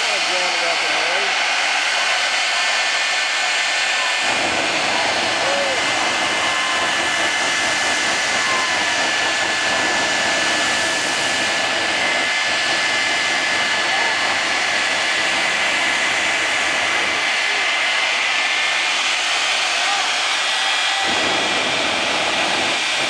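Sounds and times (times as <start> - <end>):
jet engine roaring with whine: 0.0 - 23.0.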